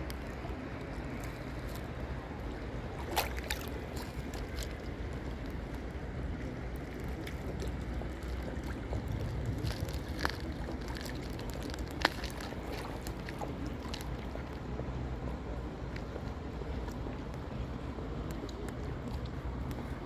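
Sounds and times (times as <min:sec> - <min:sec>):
fast-flowing river: 0:00.0 - 0:17.1
wind rumbling on the microphone: 0:00.0 - 0:20.0.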